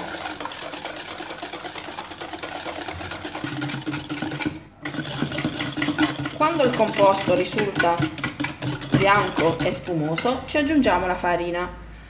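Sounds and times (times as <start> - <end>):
wire whisk clattering in metal bowl: 0.0 - 10.3.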